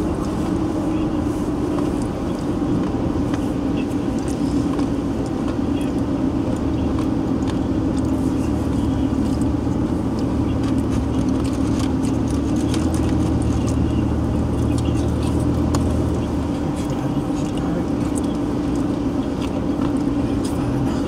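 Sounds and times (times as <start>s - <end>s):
engine and tyres on wet road: 0.0s - 21.0s.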